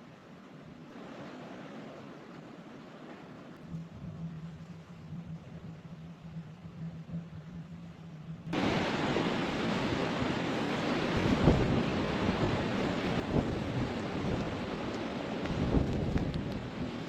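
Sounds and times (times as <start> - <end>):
blizzard wind blowing hard: 0.0 - 17.0.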